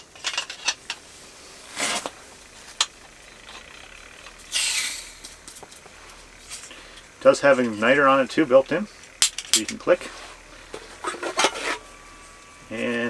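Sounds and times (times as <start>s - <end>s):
gas hissing: 0.0s - 13.0s.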